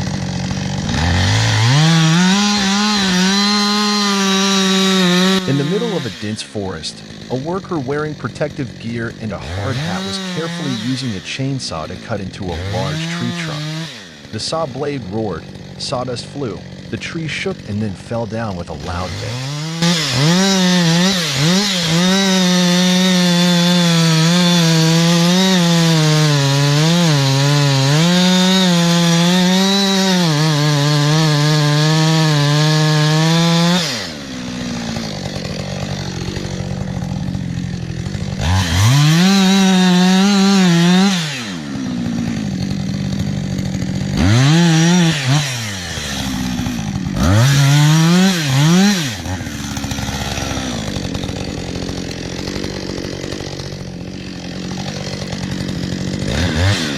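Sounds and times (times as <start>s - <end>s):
chainsaw revving and idling: 0.0s - 56.9s.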